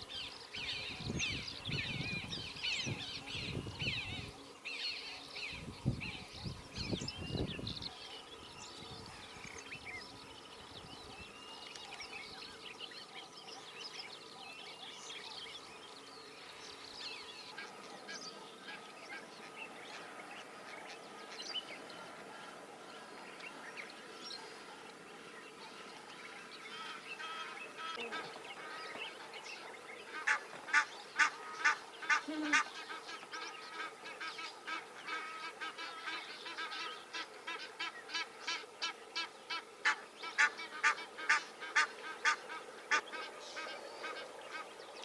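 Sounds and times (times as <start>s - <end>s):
marsh birds chirping: 0.0s - 45.0s.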